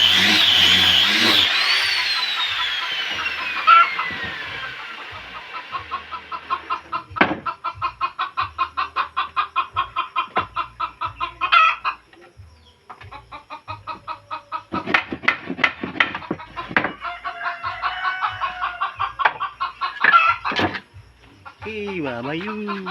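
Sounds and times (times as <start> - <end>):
chickens clucking: 2.4 - 22.9.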